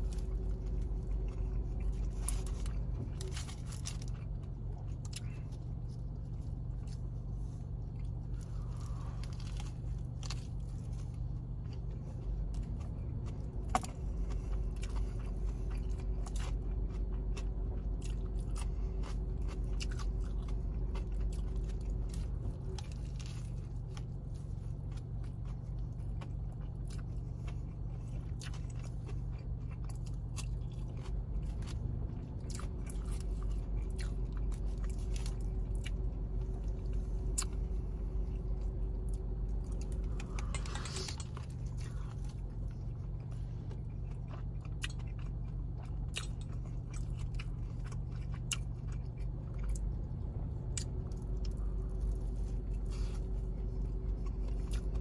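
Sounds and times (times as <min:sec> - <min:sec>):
chewing and crunching: 0:00.0 - 0:55.0
low hum: 0:00.0 - 0:55.0.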